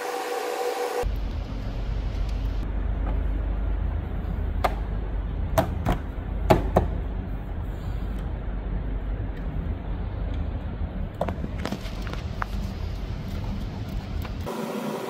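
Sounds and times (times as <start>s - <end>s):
steady low rumble: 1.0s - 14.5s.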